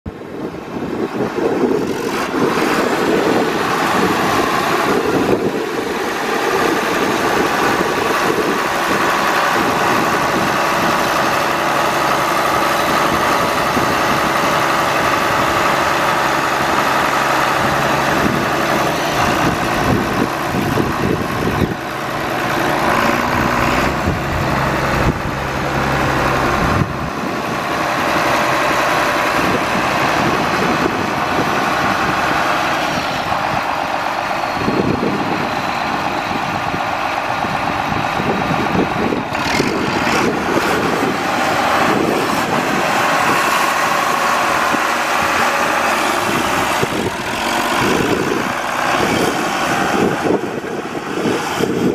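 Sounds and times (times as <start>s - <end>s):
tractor diesel engine idling: 0.1s - 51.9s.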